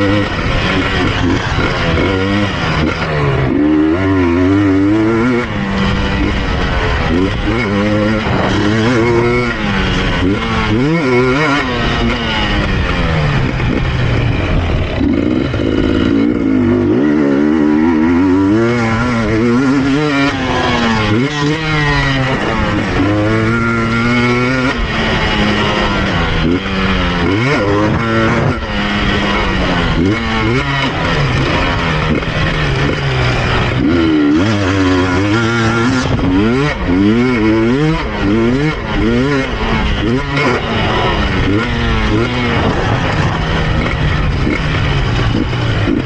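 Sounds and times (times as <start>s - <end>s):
two-stroke engine revving: 0.0s - 46.0s.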